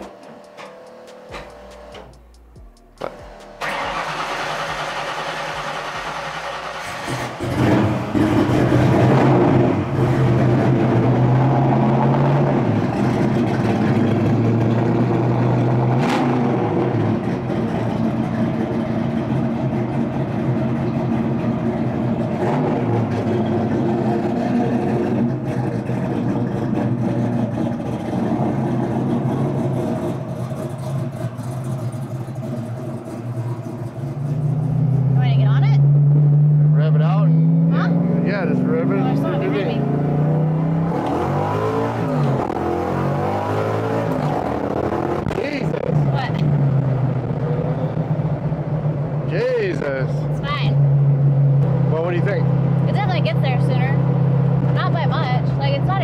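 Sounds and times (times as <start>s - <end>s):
car engine running at low revs: 0.0s - 56.0s.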